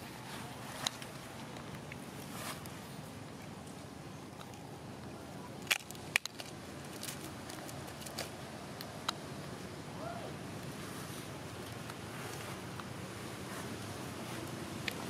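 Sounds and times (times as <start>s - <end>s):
clicks and crackles on dry leaves: 0.0s - 9.6s, 10.6s - 15.0s
outdoor background noise: 0.0s - 15.0s.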